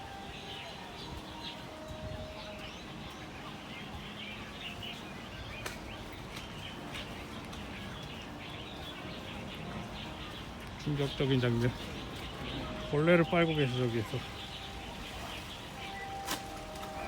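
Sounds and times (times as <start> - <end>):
small birds chirping: 0.0 - 17.0
steady background hiss: 0.0 - 17.0.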